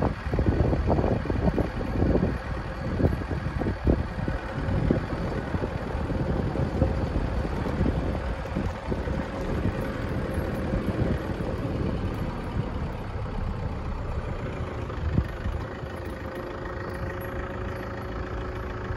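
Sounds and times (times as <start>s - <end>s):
vehicle engine low rumble: 0.0s - 18.9s.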